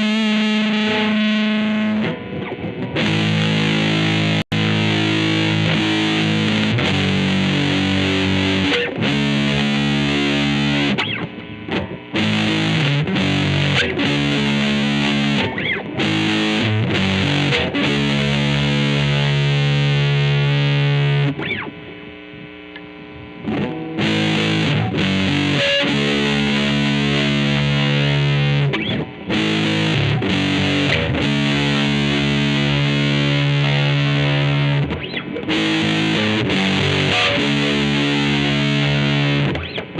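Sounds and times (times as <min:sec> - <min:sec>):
distorted electric guitar chords: 0:00.0 - 0:39.9.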